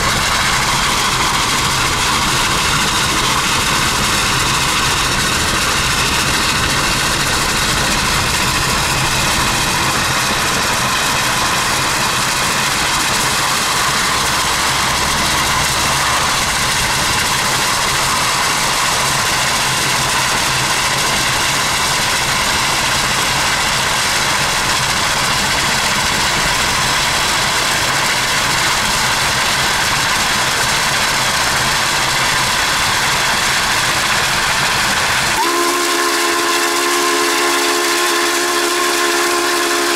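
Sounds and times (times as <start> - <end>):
wind and tyre noise: 0.0 - 35.4.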